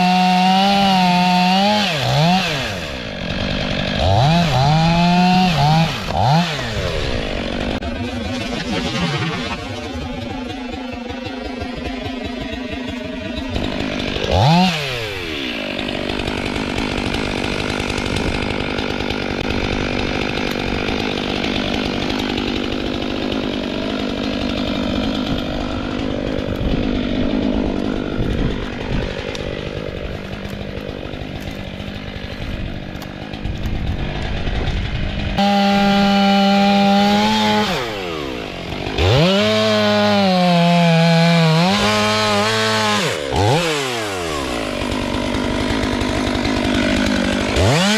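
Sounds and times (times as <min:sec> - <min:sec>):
chainsaw revving and cutting wood: 0:00.0 - 0:47.9.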